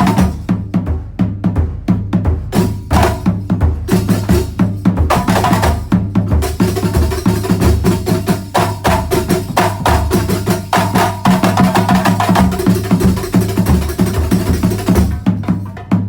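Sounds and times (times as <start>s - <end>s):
frame drum ensemble rhythm: 0.0s - 16.0s.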